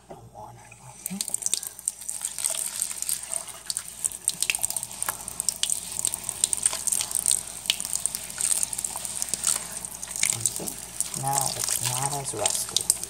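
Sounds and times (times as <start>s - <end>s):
wet washcloth scrubbing sink: 0.8s - 13.0s.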